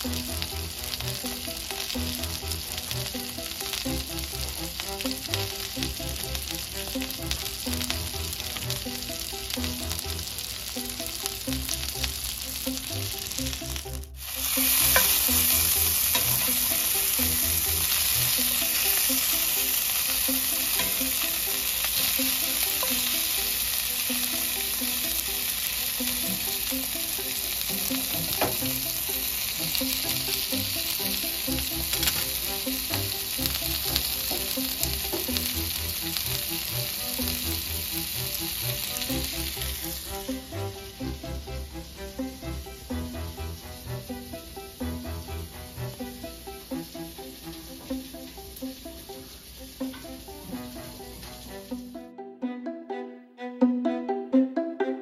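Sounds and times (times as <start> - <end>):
pancakes sizzling on griddle: 0.0 - 51.8
sausages sizzling in skillet: 0.0 - 51.9.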